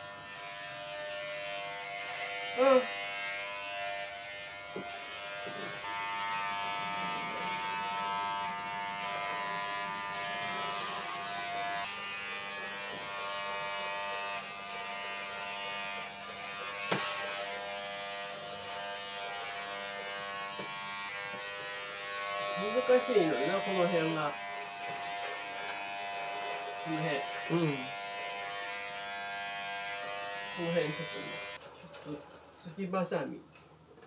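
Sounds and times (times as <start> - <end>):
electric pet clipper buzzing: 0.0 - 31.6.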